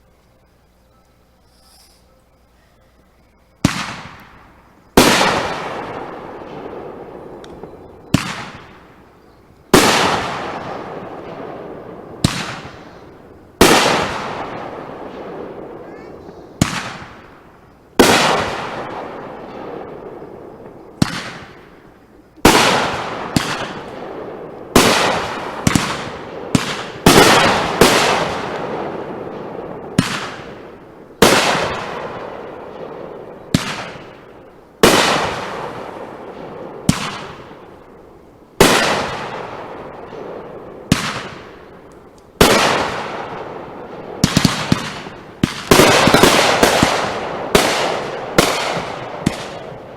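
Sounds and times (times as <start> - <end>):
fireworks bangs: 3.1 - 49.9.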